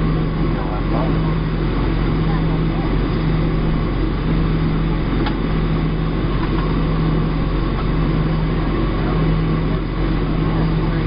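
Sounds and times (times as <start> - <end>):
airplane cabin engine noise: 0.0 - 11.0
low hum: 0.0 - 11.0.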